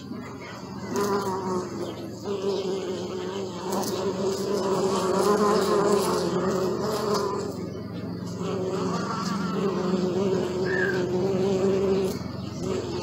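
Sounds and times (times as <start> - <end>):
bee buzzing in flight: 0.6 - 13.0.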